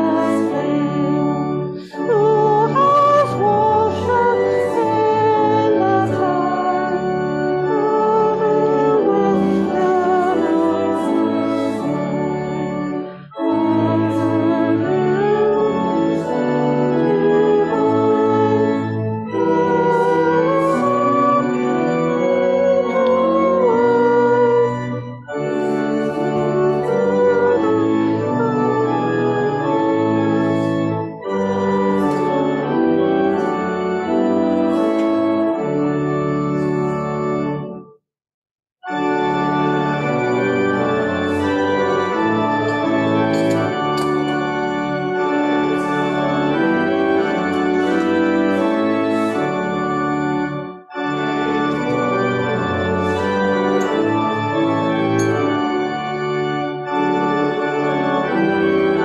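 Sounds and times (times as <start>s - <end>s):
church organ playing a hymn: 0.0s - 38.0s, 38.8s - 59.0s.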